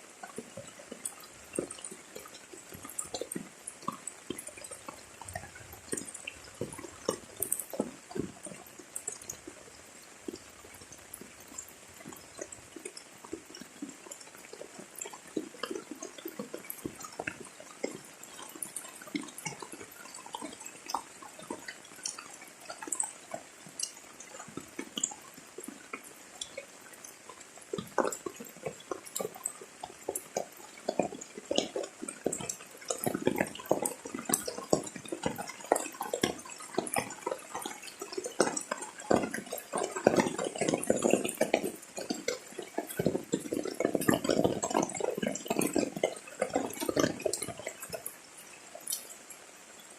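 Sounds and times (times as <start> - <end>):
raindrops splashing: 0.0 - 49.9.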